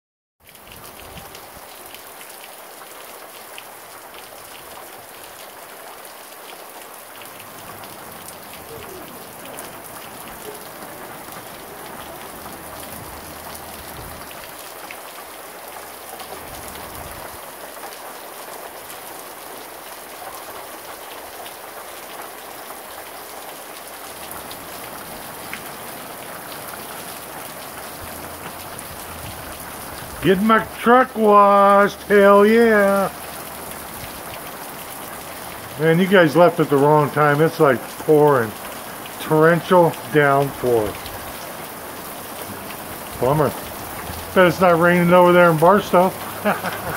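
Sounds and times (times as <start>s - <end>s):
heavy rain pounding on concrete: 0.4s - 46.9s.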